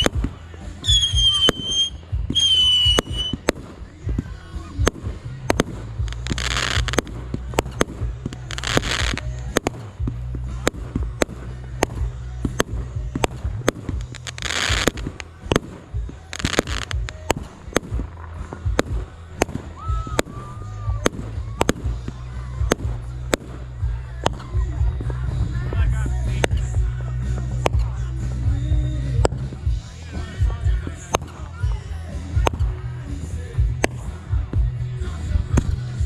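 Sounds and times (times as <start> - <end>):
fireworks banging and popping: 0.0 - 36.0
fireworks crackling: 0.0 - 36.0
low rumble: 0.0 - 36.0.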